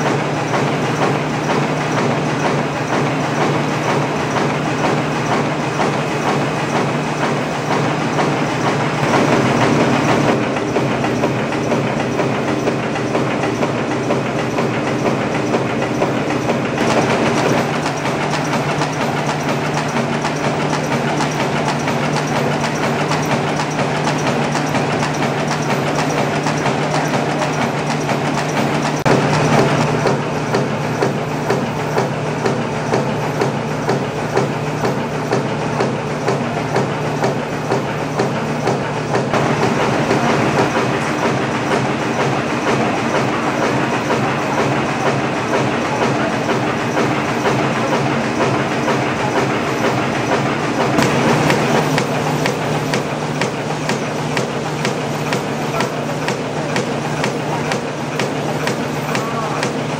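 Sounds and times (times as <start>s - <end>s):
low machine hum: 0.0s - 59.9s
machine clattering: 0.0s - 59.9s.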